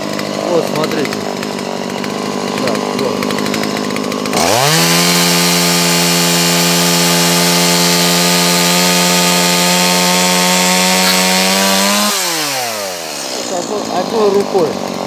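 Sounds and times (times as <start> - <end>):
chainsaw sawing wood: 0.0 - 15.0.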